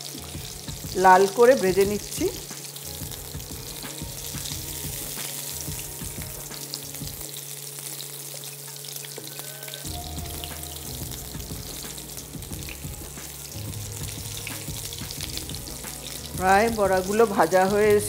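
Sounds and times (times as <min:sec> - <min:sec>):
dumplings sizzling in oil: 0:00.0 - 0:18.0.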